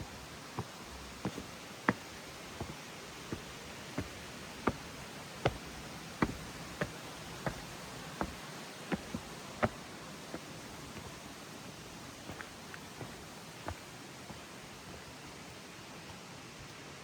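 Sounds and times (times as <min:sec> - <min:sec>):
footsteps walking: 0:00.0 - 0:16.8
rain hiss: 0:00.0 - 0:17.0.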